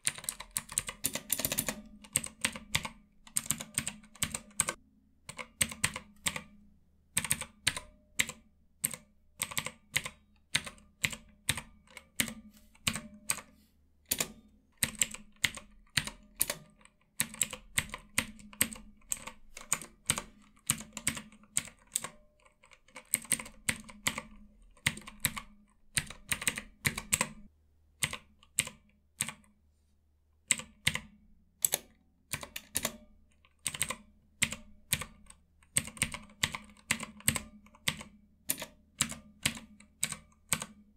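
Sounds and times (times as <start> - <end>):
mechanical keyboard clicks: 0.0 - 6.5, 7.2 - 13.5, 14.1 - 29.5, 30.4 - 40.8.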